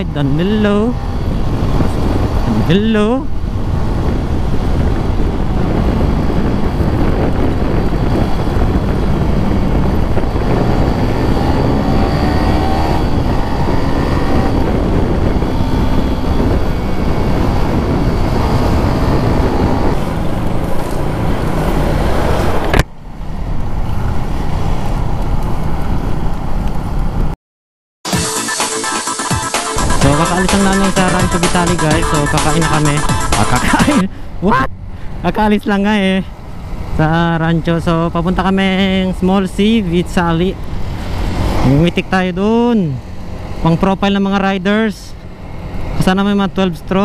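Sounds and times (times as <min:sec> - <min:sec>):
motorcycle engine: 0:00.0 - 0:27.2, 0:28.1 - 0:35.1, 0:35.9 - 0:47.0
wind rush: 0:00.0 - 0:27.3, 0:29.8 - 0:47.0.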